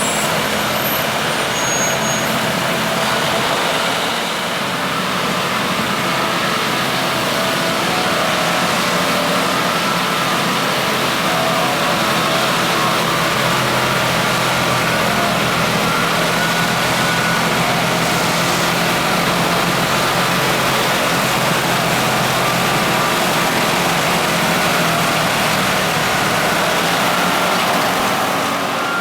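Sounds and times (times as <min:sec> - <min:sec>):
snow blower running: 0:00.0 - 0:29.0.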